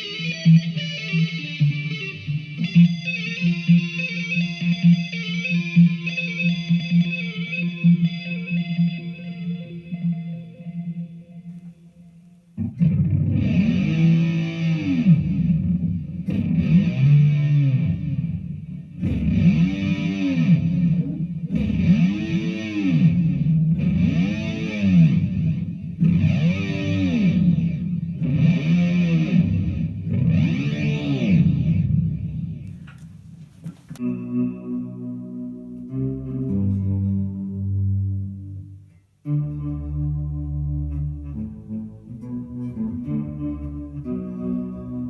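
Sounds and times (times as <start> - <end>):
distorted electric guitar chords: 0.0 - 45.0.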